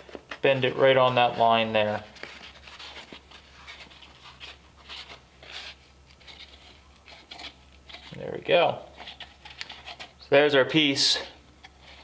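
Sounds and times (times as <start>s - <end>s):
cardboard crackling as folded: 0.0s - 10.1s
low steady hum: 0.0s - 12.0s.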